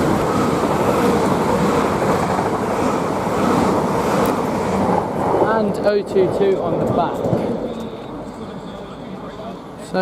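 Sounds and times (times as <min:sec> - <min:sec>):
train rushing past: 0:00.0 - 0:10.0.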